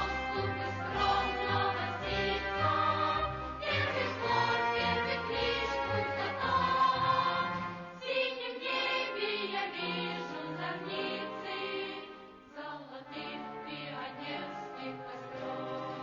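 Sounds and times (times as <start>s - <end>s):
choir singing with music: 0.0s - 16.0s.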